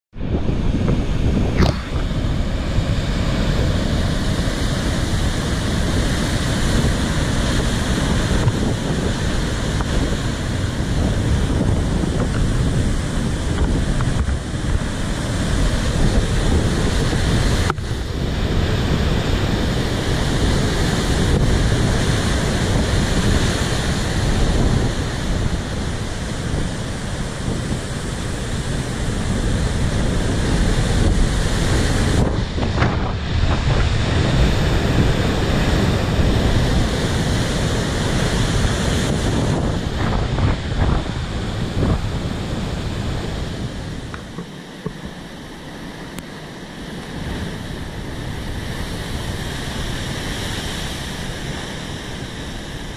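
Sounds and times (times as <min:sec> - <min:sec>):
wind rumbling on microphone: 0:00.1 - 0:52.9
ocean waves crashing on rocks: 0:00.2 - 0:52.9.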